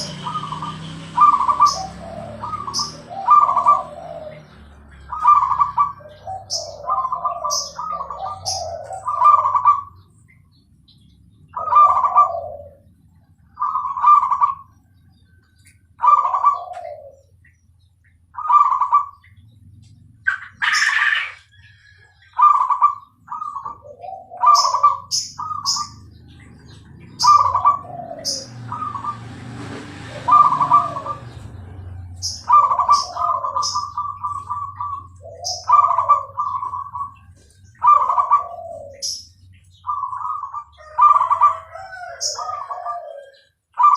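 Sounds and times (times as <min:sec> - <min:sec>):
dove cooing: 0:00.0 - 0:10.2, 0:11.5 - 0:17.5, 0:18.4 - 0:43.9
high bird chirps: 0:00.0 - 0:29.3, 0:30.2 - 0:43.9.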